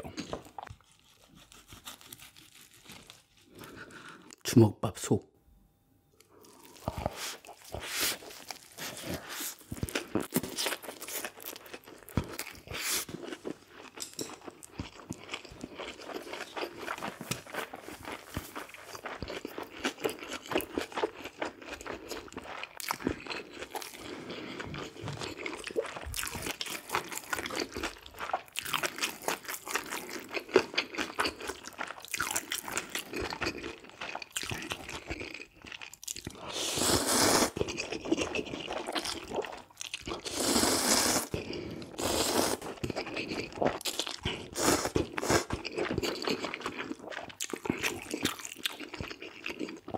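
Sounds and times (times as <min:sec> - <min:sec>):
person chewing crunchy food: 0:00.0 - 0:04.4, 0:06.2 - 0:49.9.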